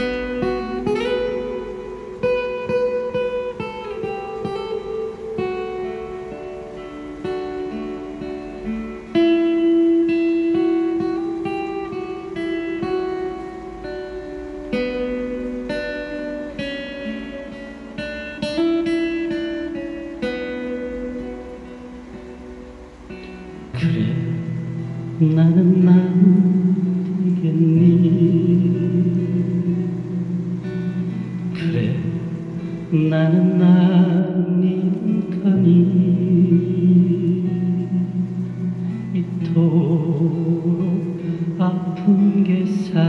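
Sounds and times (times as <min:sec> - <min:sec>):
acoustic guitar melody: 0:00.0 - 0:43.0.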